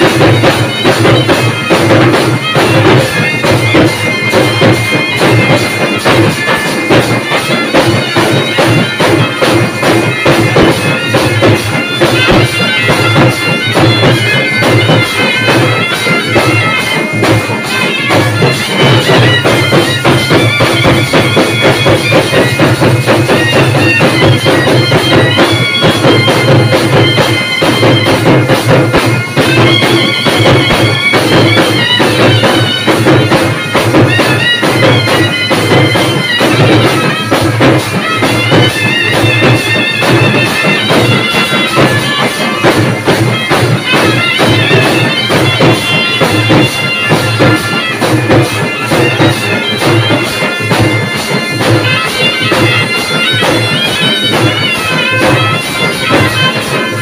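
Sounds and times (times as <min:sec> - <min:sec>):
drumming: 0:00.0 - 0:57.0
reed wind instrument melody: 0:00.0 - 0:57.0.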